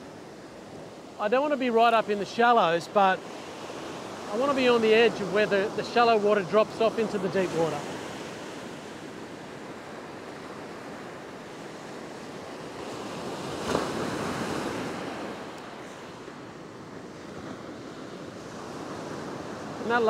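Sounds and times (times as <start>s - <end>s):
surf breaking on beach: 1.1s - 20.0s.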